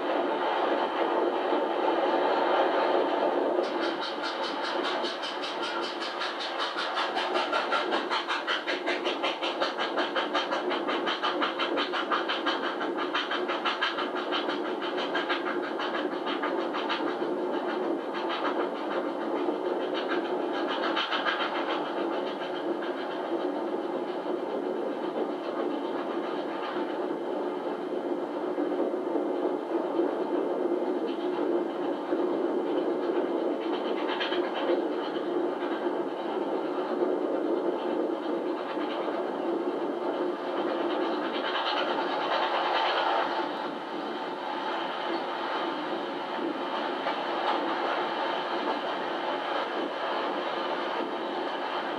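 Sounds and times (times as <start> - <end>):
steam locomotive chuffing: 0.0 - 51.9
wheel and rail noise: 0.0 - 51.9.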